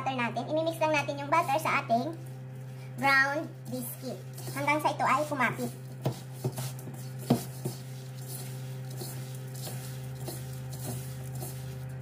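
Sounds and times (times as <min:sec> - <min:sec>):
steady low hum: 0:00.0 - 0:12.0
hands squishing crumbs in bowl: 0:01.4 - 0:12.0.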